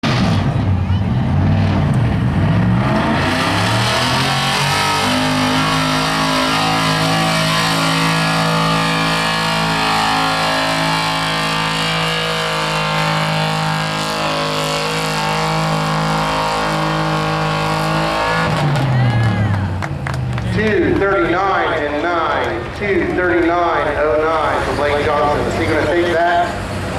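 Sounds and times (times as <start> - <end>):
diesel truck engine at full throttle: 0.0 - 26.9.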